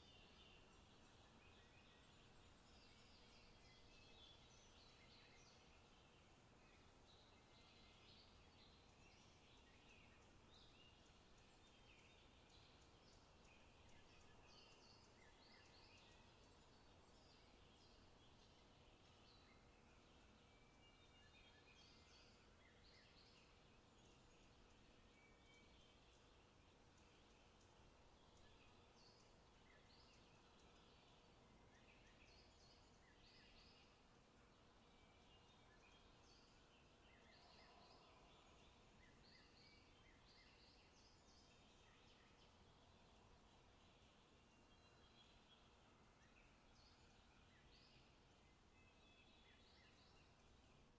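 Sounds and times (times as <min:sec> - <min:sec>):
faint birdsong: 0:00.0 - 0:50.9
low background hiss: 0:00.0 - 0:50.9.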